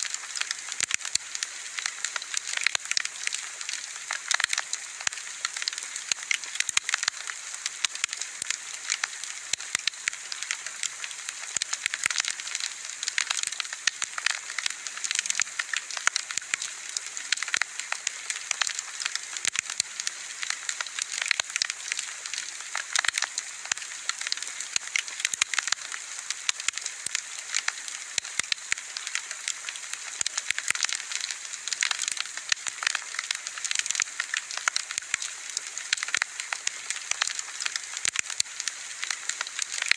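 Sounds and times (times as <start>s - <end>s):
bonfire crackling: 0.1s - 39.9s.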